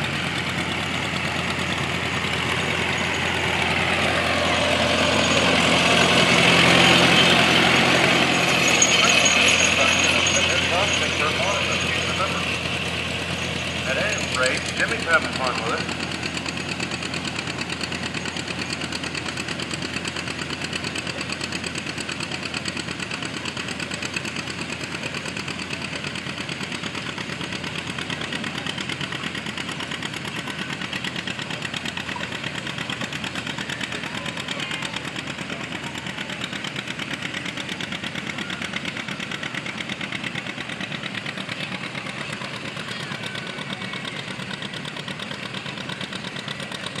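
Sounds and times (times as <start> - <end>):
tractor engine under load: 0.0 - 47.0.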